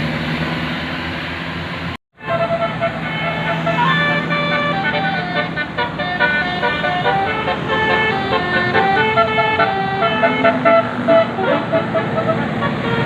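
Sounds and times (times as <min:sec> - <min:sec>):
road and engine noise: 0:00.0 - 0:13.0
bus horn playing a tune: 0:02.2 - 0:13.0.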